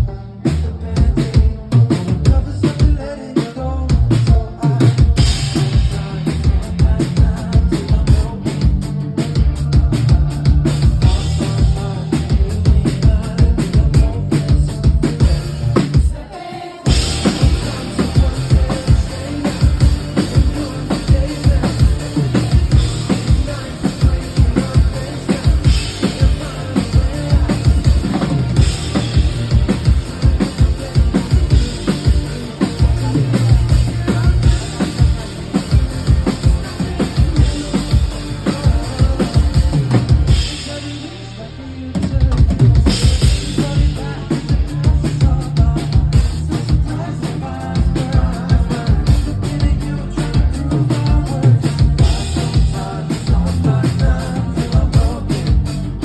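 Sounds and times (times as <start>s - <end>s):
bass line: 0.0s - 56.0s
live pop band: 0.0s - 56.0s.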